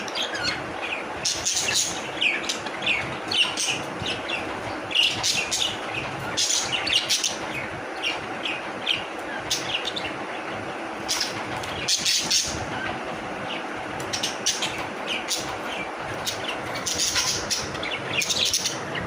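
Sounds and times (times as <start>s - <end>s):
budgies chirping and tweeting: 0.0s - 19.0s
steady background noise: 0.0s - 19.0s.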